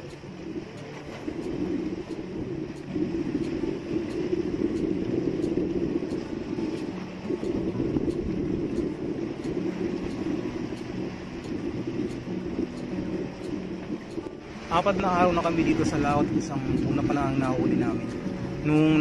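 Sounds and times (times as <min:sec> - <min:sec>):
boat diesel engine running: 0:00.0 - 0:19.0
faint regular ticking: 0:00.0 - 0:19.0.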